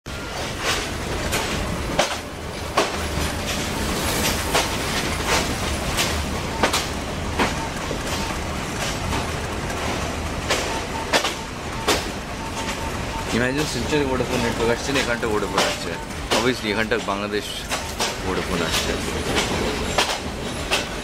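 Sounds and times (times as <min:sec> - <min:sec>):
train rumble: 0:00.1 - 0:21.0
wheels clicking over rail joints: 0:00.2 - 0:21.0.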